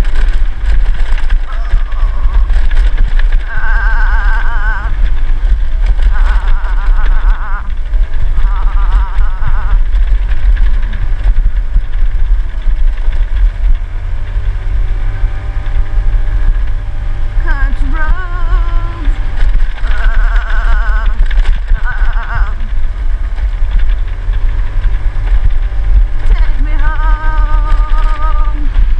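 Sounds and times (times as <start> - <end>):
scooter on gravel road rumble: 0.0 - 28.9.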